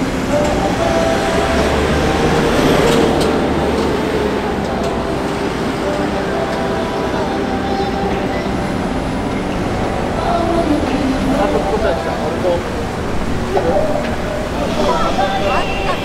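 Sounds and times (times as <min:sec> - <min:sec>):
background voices: 0:00.0 - 0:16.0
engine hum: 0:00.0 - 0:16.0
vehicles passing through intersection: 0:00.0 - 0:16.0.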